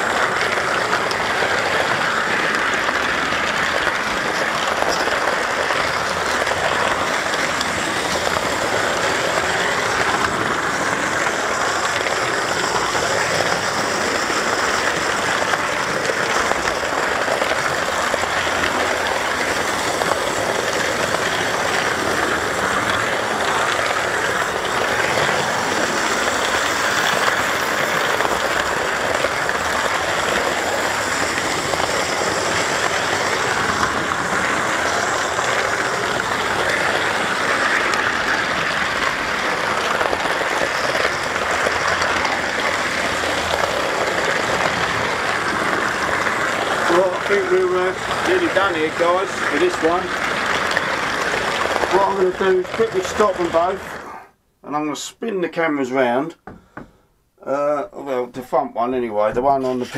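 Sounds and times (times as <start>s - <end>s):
model train wheels on rail: 0.0s - 54.3s.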